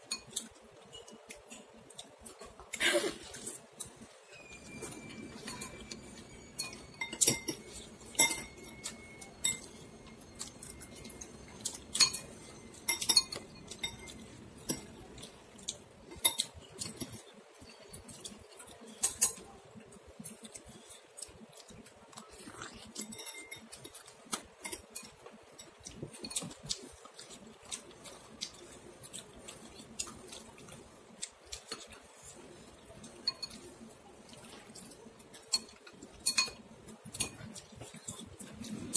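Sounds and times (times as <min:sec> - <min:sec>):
spoon and chopsticks clinking bowl: 0:00.0 - 0:02.5, 0:03.8 - 0:19.6, 0:22.8 - 0:30.8, 0:32.7 - 0:38.9.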